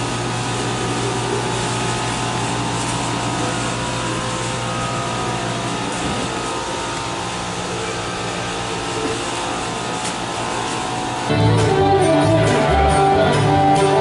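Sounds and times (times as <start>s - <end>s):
machinery and ventilation drone: 0.0s - 14.0s.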